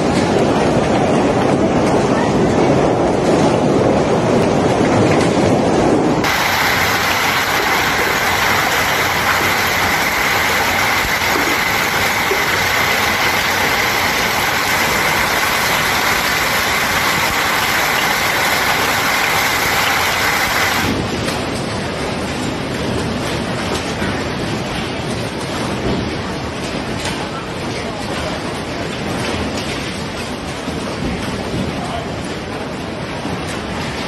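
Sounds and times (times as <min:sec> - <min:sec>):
hailstones pelting ground and water: 0:00.0 - 0:34.0
wind-driven hail roaring: 0:00.0 - 0:34.0.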